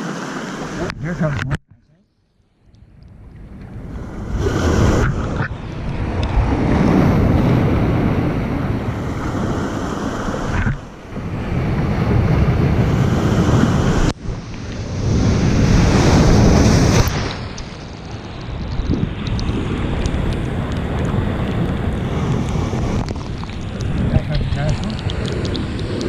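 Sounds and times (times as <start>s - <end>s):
ocean waves crashing: 0.0s - 1.5s, 3.7s - 26.0s
wind buffeting microphone: 3.1s - 26.0s.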